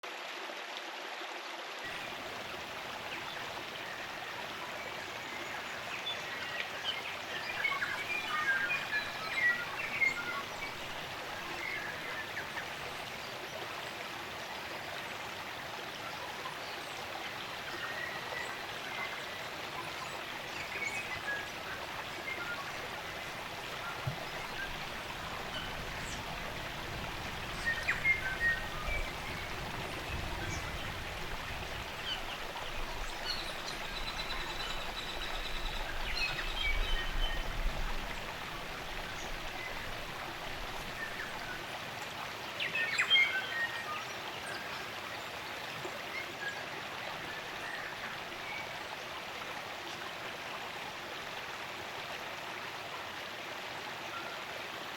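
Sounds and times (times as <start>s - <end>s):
stream running: 0.0s - 54.9s.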